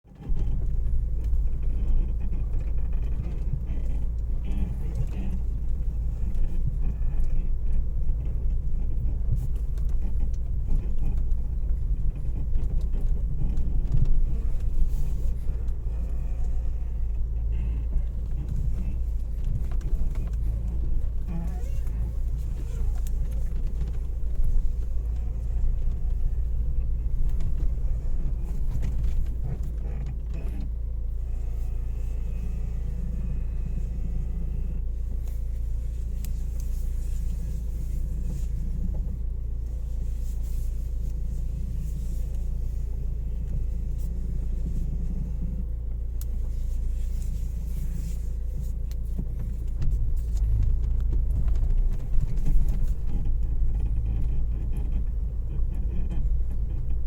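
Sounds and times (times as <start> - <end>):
low road rumble in car: 0.0 - 57.0
faint creaks and clicks: 0.1 - 57.0.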